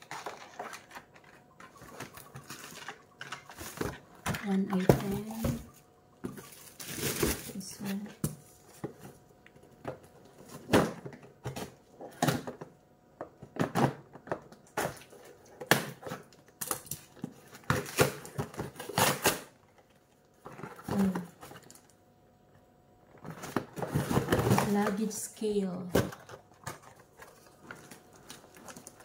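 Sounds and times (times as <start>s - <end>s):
cardboard and tape crackling: 0.0s - 12.7s, 13.4s - 22.0s, 23.1s - 29.0s.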